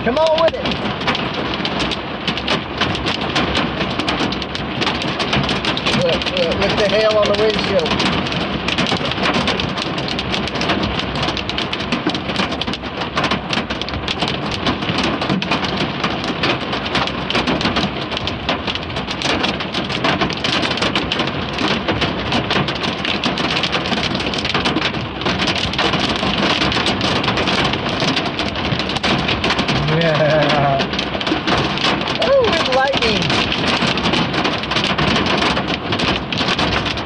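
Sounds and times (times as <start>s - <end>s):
hail and rain hitting a car: 0.0s - 37.0s.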